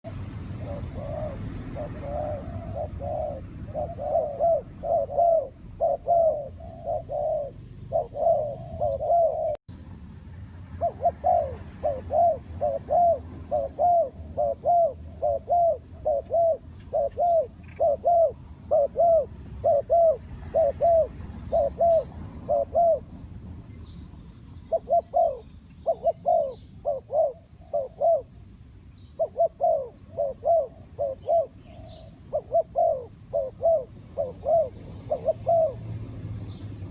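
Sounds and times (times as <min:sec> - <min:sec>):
small birds chirping: 0:00.1 - 0:09.9, 0:10.8 - 0:36.9
dove cooing: 0:00.4 - 0:09.6, 0:10.8 - 0:23.2, 0:24.7 - 0:36.0.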